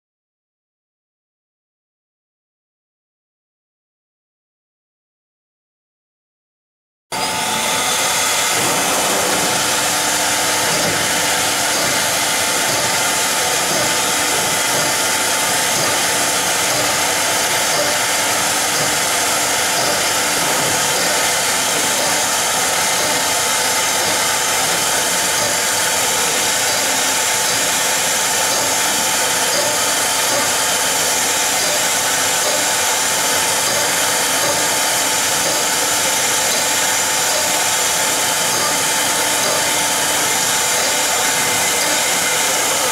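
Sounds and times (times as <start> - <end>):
dust extraction rushing: 7.2 - 42.9
router spindle whine: 7.2 - 42.9.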